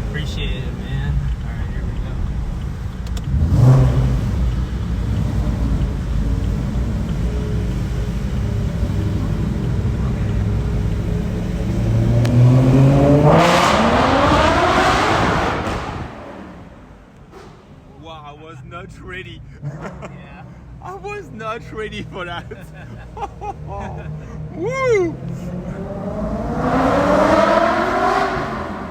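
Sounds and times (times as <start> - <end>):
car engine accelerating hard: 0.0 - 18.0, 19.0 - 28.9.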